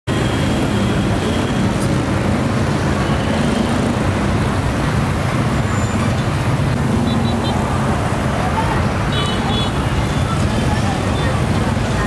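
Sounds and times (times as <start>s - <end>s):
cars and motorbikes passing: 0.1s - 12.0s.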